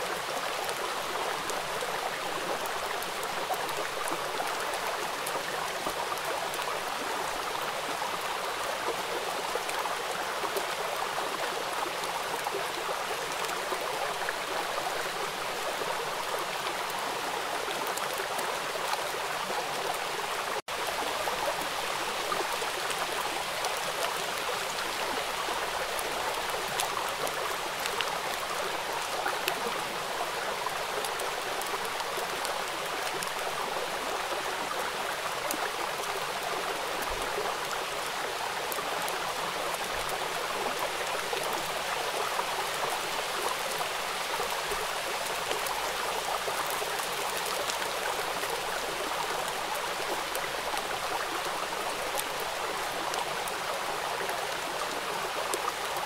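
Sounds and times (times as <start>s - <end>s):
flowing stream: 0.0s - 56.0s.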